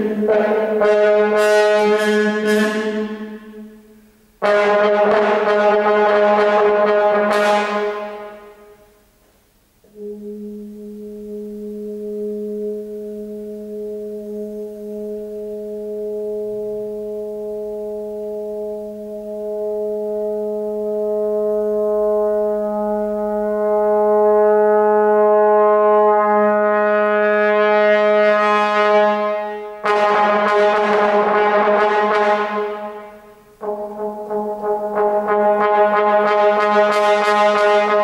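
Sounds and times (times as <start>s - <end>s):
harsh trombone blare: 0.0s - 9.0s, 9.9s - 38.0s
trombone holding a note: 0.0s - 9.0s, 9.9s - 38.0s.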